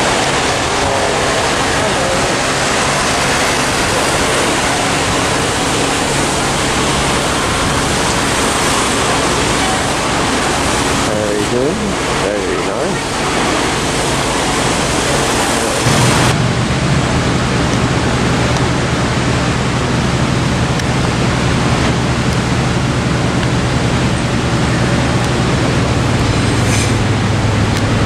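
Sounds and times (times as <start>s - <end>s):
electric train low hum: 0.0s - 28.0s
train rushing noise: 0.0s - 28.0s.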